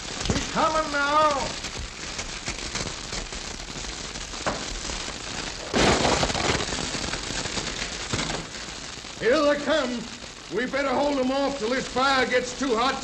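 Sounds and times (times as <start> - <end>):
straw and wrapping crackling: 0.0 - 13.0.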